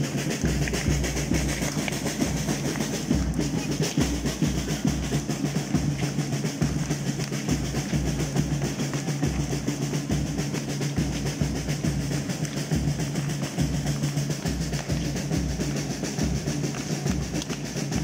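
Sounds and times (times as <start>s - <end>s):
bass drum beating: 0.0s - 18.0s
drums playing fast roll: 0.0s - 18.0s.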